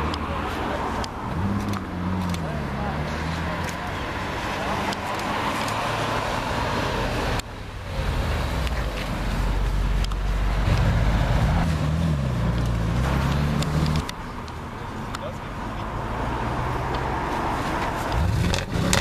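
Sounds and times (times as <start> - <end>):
car engine deep rumble: 0.0 - 19.0.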